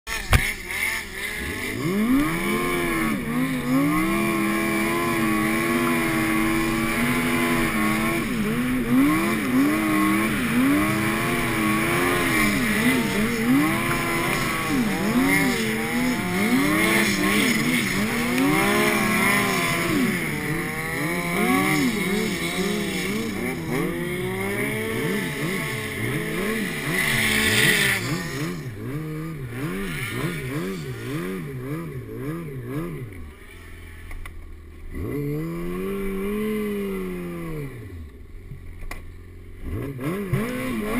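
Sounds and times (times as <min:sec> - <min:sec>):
snowmobile engine revving: 0:00.1 - 0:34.1, 0:34.9 - 0:38.2, 0:39.6 - 0:40.9.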